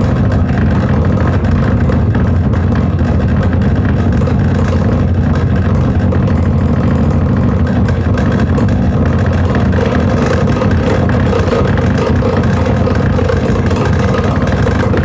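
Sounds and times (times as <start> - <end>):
low engine-like drone: 0.0 - 15.0.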